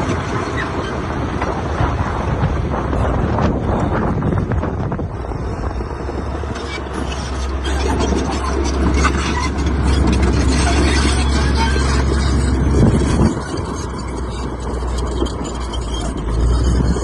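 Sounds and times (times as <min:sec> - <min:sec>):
diesel machinery droning: 0:00.0 - 0:17.0.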